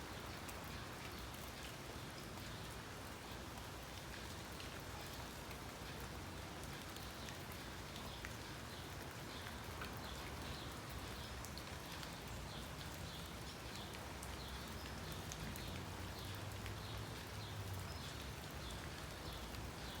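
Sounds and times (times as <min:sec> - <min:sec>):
rain-like hiss: 0:00.0 - 0:20.0.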